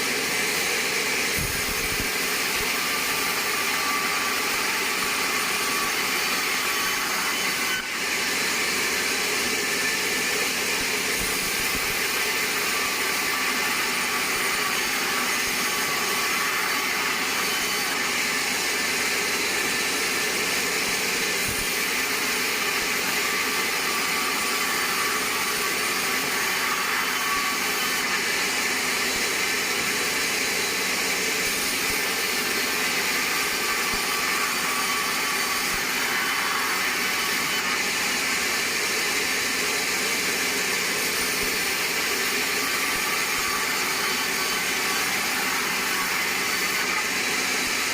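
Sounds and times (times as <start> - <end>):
band saw cutting log: 0.0 - 47.9.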